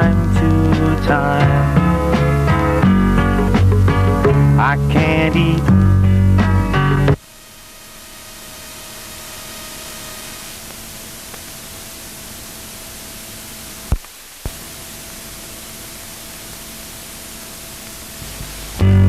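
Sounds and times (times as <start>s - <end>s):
faint hum: 0.0s - 19.0s
static hiss: 0.0s - 19.0s.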